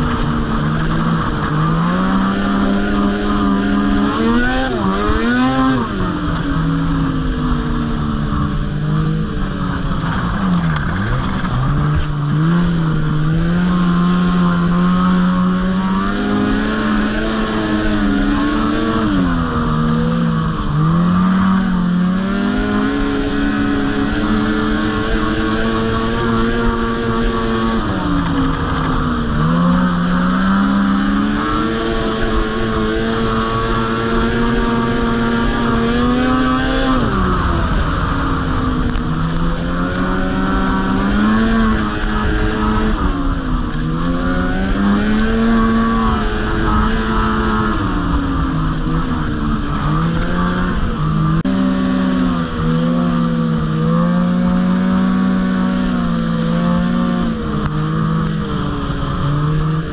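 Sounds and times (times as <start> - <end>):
snowmobile engine running hard: 0.0 - 59.9.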